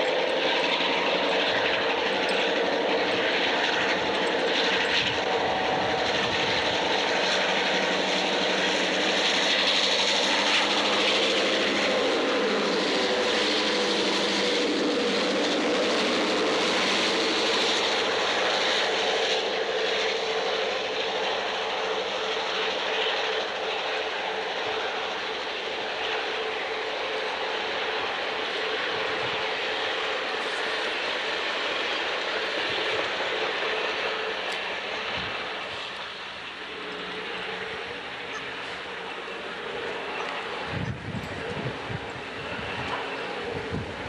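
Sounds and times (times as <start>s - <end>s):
diesel locomotive engines droning: 0.0s - 44.0s.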